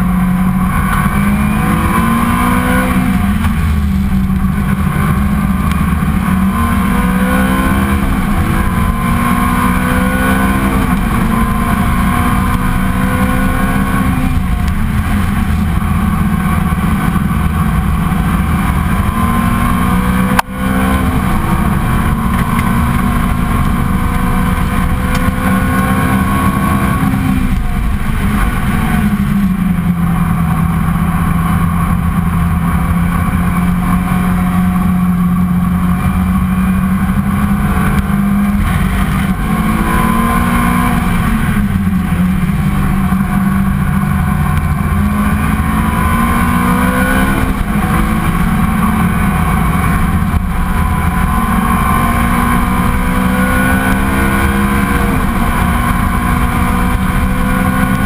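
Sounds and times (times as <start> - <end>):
race car engine roaring: 0.0 - 58.0.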